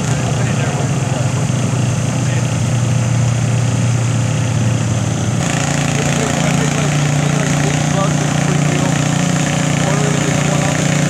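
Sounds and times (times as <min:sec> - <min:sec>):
tractor engines droning: 0:00.0 - 0:11.0.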